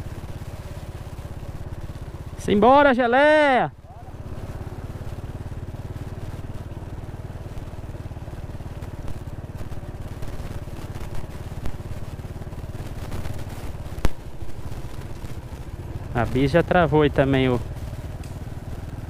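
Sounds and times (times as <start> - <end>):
small motorcycle engine idling: 0.0 - 19.0.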